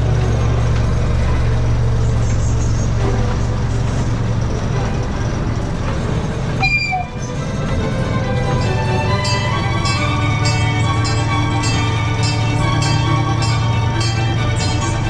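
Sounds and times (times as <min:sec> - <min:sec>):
miniature train rumbling on track: 0:00.0 - 0:15.0
music: 0:00.1 - 0:15.0.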